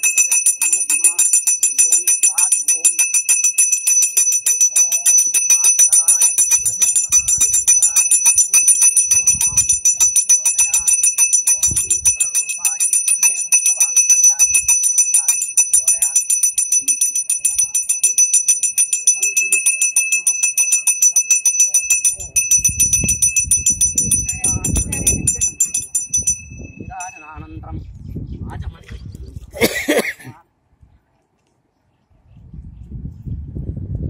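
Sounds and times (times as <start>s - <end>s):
hand bell ringing rapidly: 0.0s - 27.4s.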